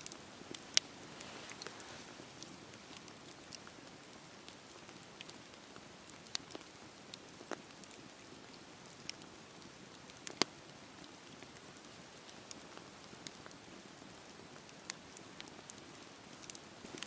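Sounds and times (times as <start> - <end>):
campfire crackling: 0.0 - 17.0
sharp pops and snaps of fire: 0.0 - 17.0.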